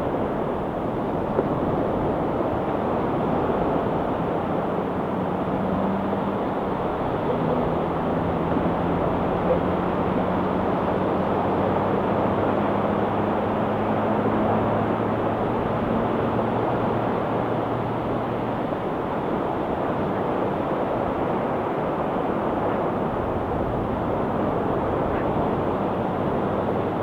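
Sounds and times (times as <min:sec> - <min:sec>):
low steady drone: 0:00.0 - 0:27.0.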